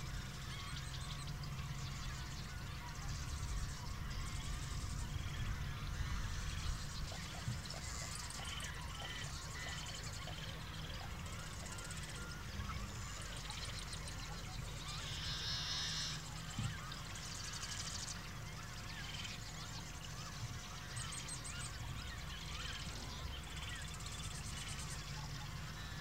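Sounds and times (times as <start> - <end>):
buzzy bird call: 0.0 - 26.0
small bird calls and trills: 0.0 - 26.0
steady low rumble: 0.0 - 26.0.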